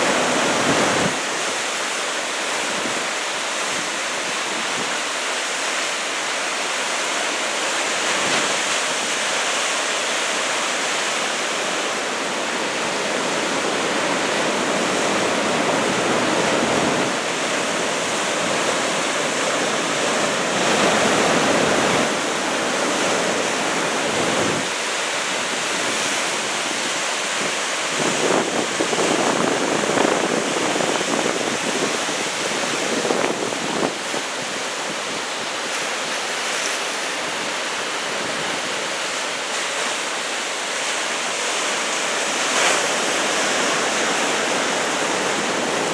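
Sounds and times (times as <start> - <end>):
ocean waves breaking: 0.0 - 45.9.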